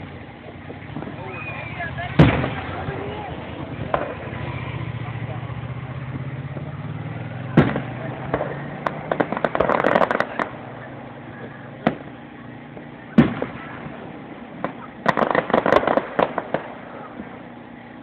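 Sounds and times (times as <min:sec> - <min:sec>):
loud firework bangs: 0:00.0 - 0:18.0
rapid fireworks pops: 0:00.0 - 0:18.0.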